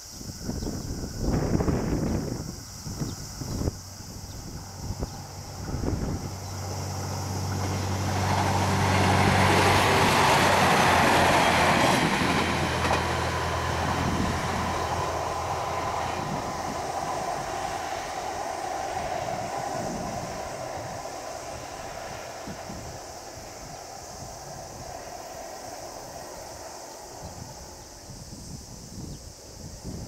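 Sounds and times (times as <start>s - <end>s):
train wheels rolling on rails: 1.0s - 30.0s.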